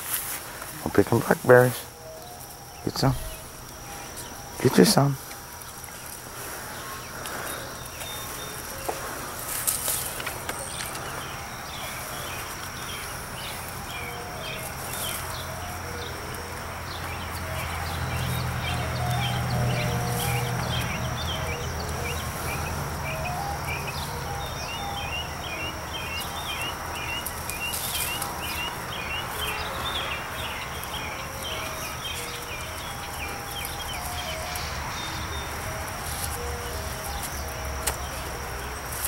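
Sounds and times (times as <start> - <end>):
insect drone: 0.0 - 39.0.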